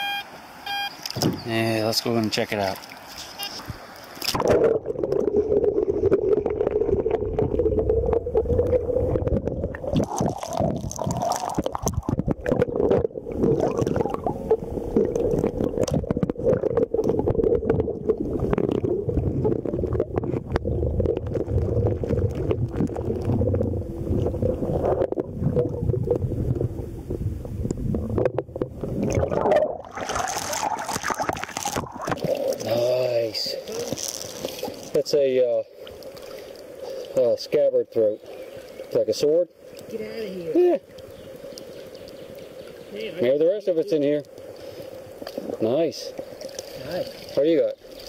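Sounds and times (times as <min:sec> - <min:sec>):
muffled underwater river rush: 0:01.2 - 0:40.0, 0:40.8 - 0:48.0.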